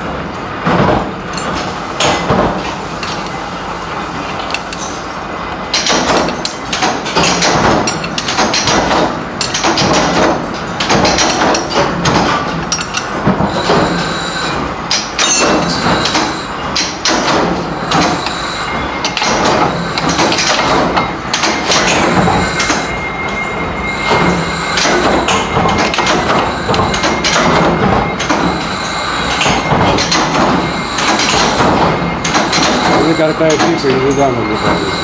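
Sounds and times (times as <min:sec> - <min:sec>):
workshop machinery clatter: 0:00.0 - 0:35.0.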